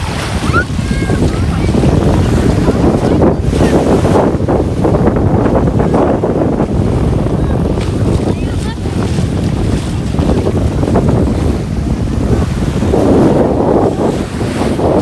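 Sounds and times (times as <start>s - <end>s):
small waves washing on shore: 0.0s - 15.0s
wind buffeting microphone: 0.0s - 15.0s.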